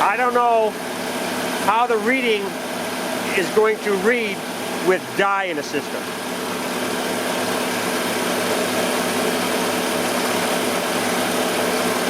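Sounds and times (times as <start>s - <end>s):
air conditioning fan hiss: 0.0s - 12.0s
car engine idling: 0.0s - 12.0s.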